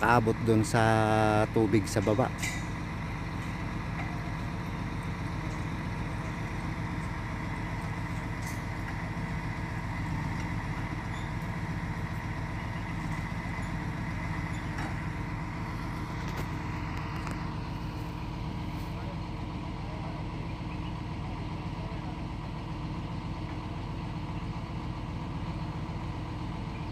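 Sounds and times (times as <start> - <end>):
crane engine running: 0.0 - 26.9.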